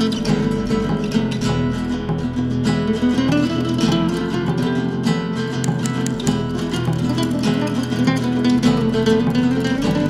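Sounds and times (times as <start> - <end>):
flamenco acoustic guitar: 0.0 - 10.0.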